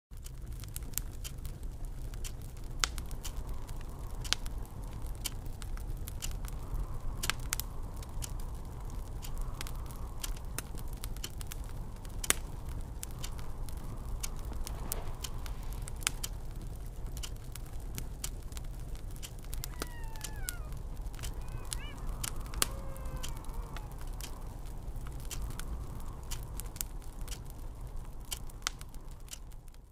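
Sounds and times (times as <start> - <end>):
fire crackling and popping: 0.1 - 29.9
low rumble of wind: 0.1 - 29.9.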